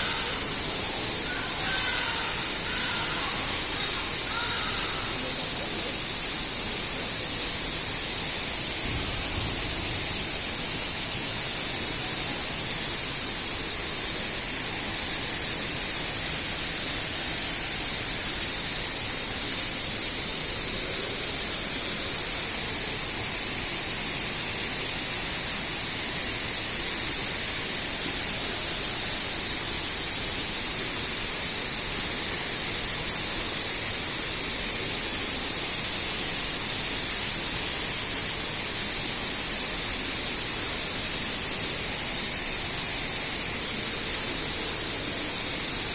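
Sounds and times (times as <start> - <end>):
rushing hiss of falling water: 0.0 - 45.9.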